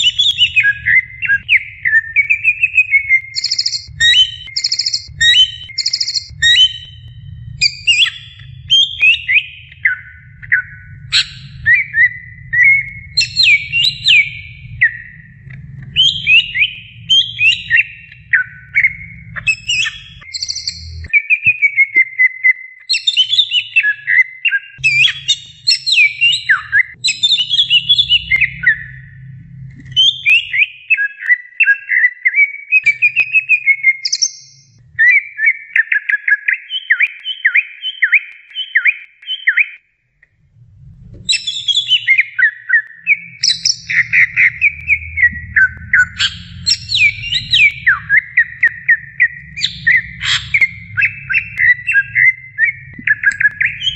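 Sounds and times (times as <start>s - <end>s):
bird singing whistled notes: 0.0s - 39.8s, 41.3s - 53.9s.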